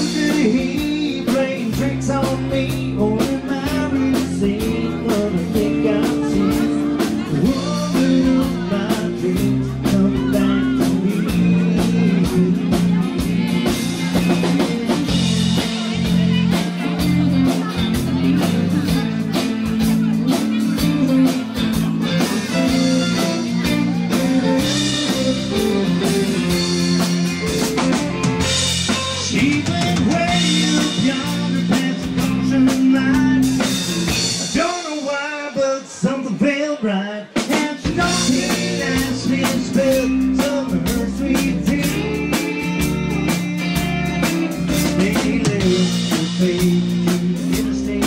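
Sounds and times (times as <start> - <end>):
country band playing: 0.0 - 48.0.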